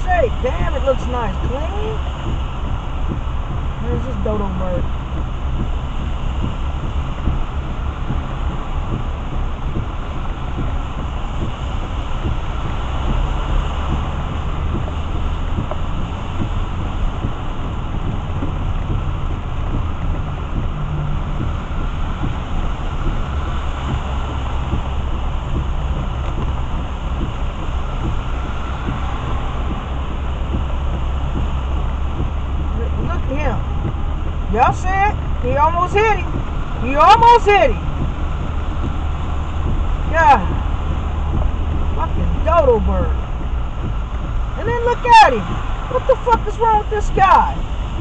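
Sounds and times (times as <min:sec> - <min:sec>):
car road rumble: 0:00.0 - 0:48.0
raindrops ticking on windshield: 0:00.0 - 0:48.0
tyre hiss on wet road: 0:00.0 - 0:48.0.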